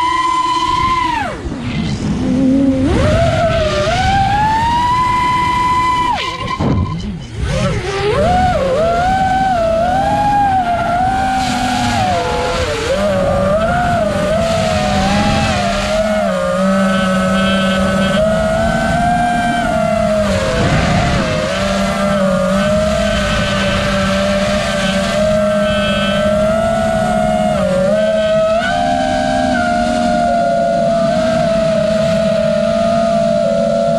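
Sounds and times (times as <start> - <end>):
drone motors buzzing whine: 0.0 - 33.9
low rushing noise: 0.0 - 33.9.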